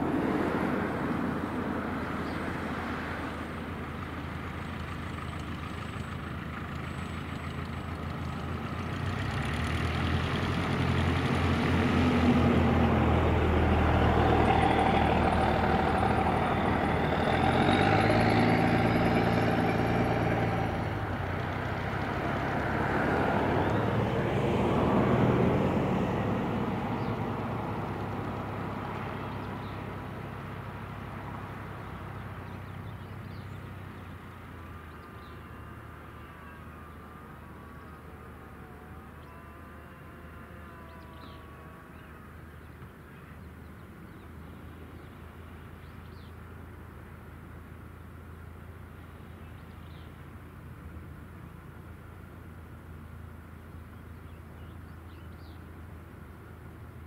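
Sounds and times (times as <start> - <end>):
small plane engine and propeller: 0.0 - 57.0.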